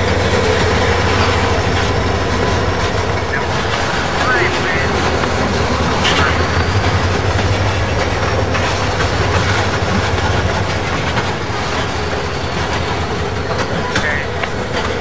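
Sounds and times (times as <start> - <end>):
model locomotive diesel rumble: 0.0 - 15.0.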